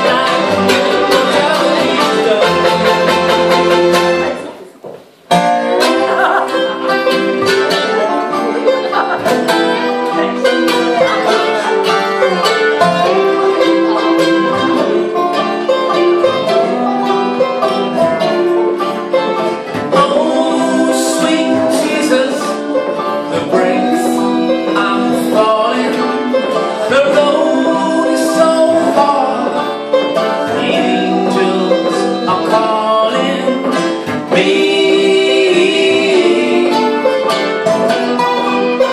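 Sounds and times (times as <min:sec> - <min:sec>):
man singing: 0:00.0 - 0:03.9, 0:05.7 - 0:38.0
bluegrass band playing: 0:00.0 - 0:38.9.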